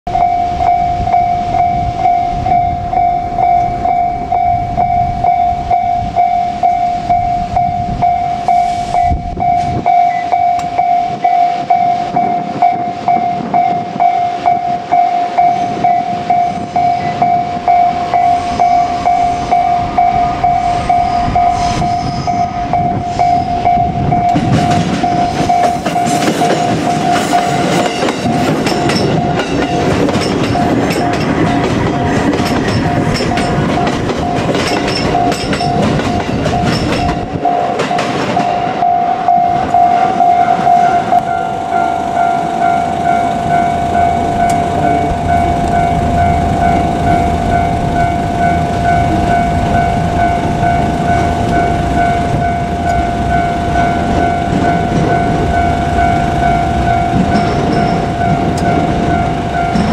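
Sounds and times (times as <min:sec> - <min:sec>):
level-crossing warning bell: 0:00.1 - 0:59.9
train wheel and rail noise: 0:00.1 - 0:59.9.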